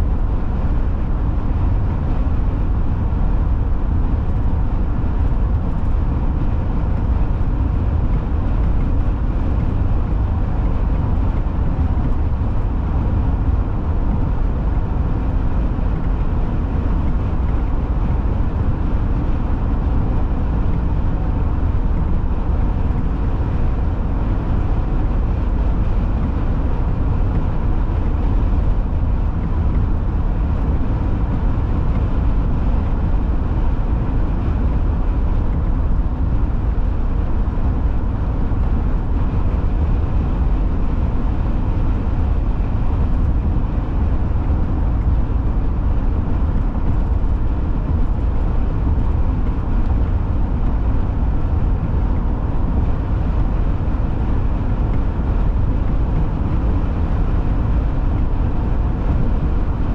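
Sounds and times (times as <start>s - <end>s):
car cruising on highway: 0.0s - 59.9s.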